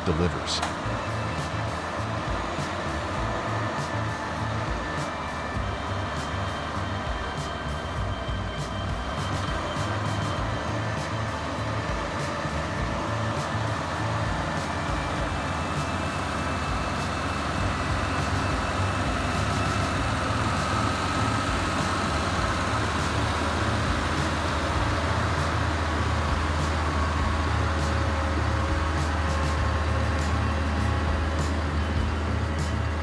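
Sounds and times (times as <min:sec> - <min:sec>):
heavy vehicle engine droning: 0:00.0 - 0:33.0.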